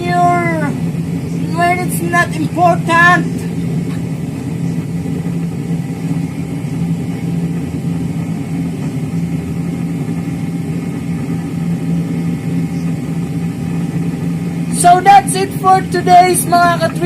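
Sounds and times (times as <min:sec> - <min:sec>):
airliner engine hum: 0:00.0 - 0:17.0.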